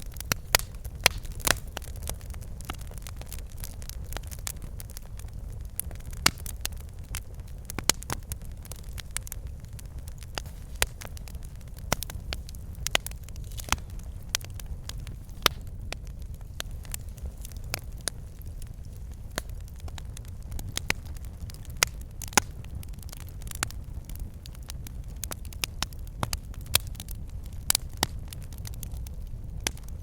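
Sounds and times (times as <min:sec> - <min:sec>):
low rumble of flame: 0:00.0 - 0:30.0
wood fire crackling and popping: 0:00.0 - 0:30.0.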